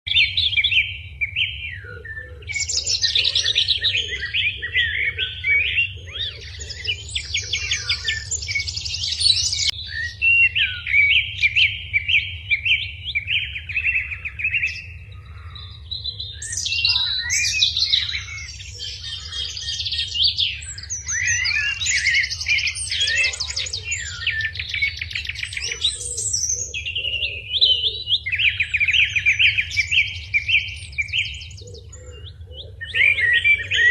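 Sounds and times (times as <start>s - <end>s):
small birds chirping and trilling: 0.1s - 33.9s.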